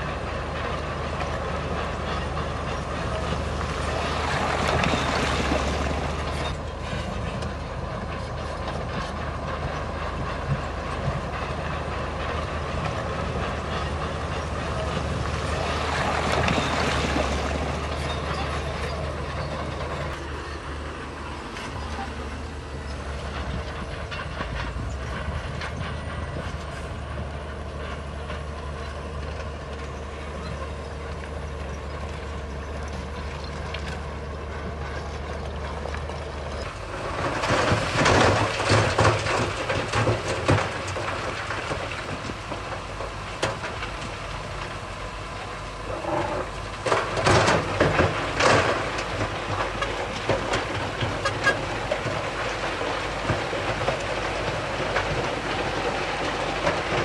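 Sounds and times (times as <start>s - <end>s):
bulldozer diesel engine running: 0.0s - 57.0s
crawler tracks clanking: 0.0s - 57.0s.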